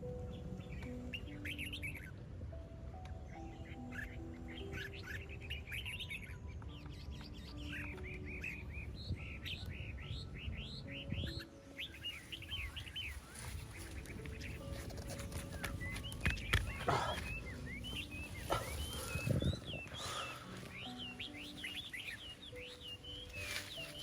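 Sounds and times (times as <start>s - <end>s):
birds chirping: 0.0s - 24.0s
soft slow melody: 0.0s - 24.0s.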